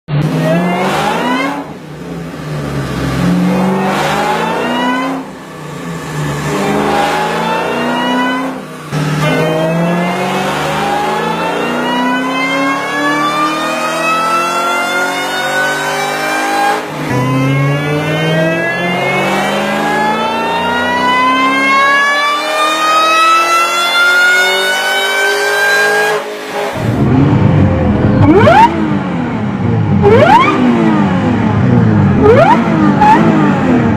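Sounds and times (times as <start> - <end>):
car accelerating with supercharger whine: 0.1 - 33.9
car revving sharply: 0.1 - 33.9.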